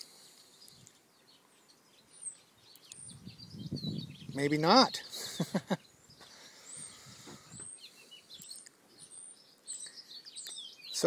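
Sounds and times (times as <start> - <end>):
faint background noise: 0.0 - 11.0
faint bird chirps: 0.0 - 11.0.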